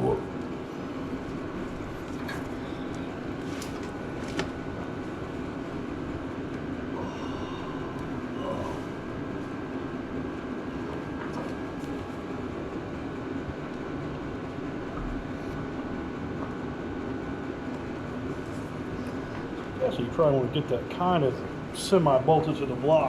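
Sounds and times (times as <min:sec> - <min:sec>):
steady droning noise: 0:00.0 - 0:23.0.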